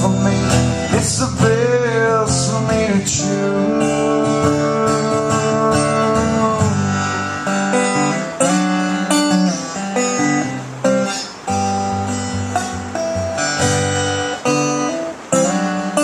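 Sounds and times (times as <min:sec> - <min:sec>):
country guitar music: 0:00.0 - 0:16.0.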